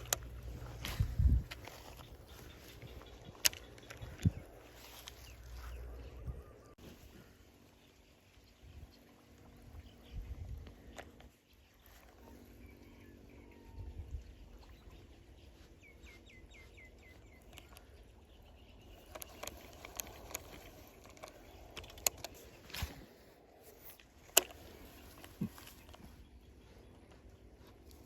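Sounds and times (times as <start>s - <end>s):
bird chirping: 0.0s - 6.8s, 7.7s - 27.9s.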